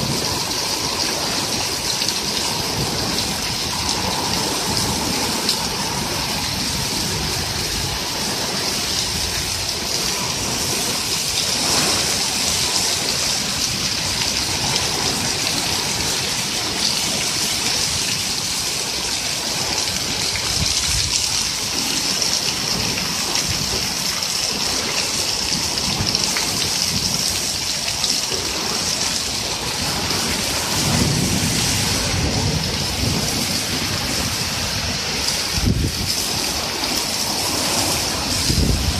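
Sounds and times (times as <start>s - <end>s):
heavy rain on concrete: 0.0s - 38.9s
low rumble of thunder: 0.0s - 38.9s
water streaming off roof: 0.0s - 38.9s.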